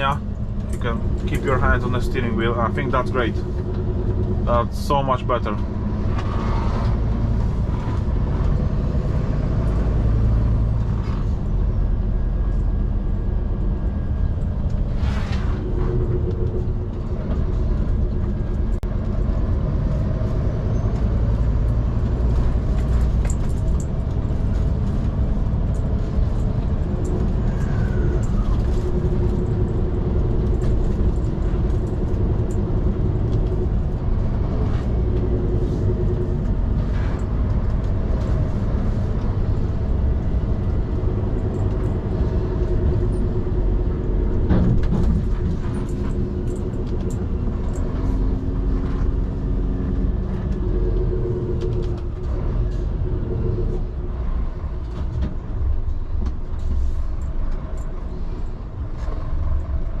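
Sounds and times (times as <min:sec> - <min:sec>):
diesel truck engine rumbling: 0:00.0 - 1:00.0.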